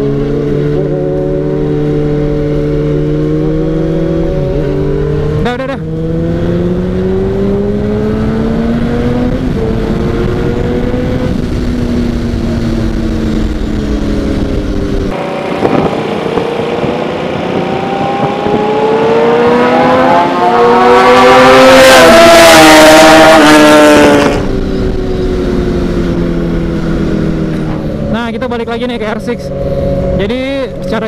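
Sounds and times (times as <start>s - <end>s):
motorbikes passing close: 0.0s - 31.0s
sport bike engine accelerating: 0.0s - 31.0s.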